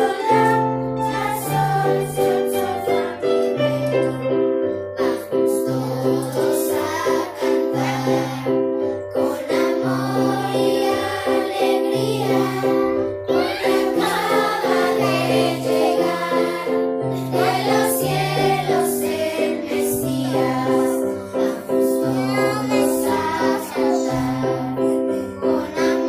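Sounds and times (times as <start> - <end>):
children singing: 0.0 - 26.0.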